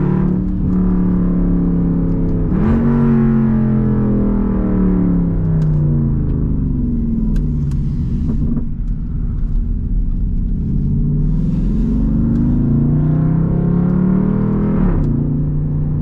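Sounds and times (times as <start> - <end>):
car engine exhaust: 0.0 - 16.0.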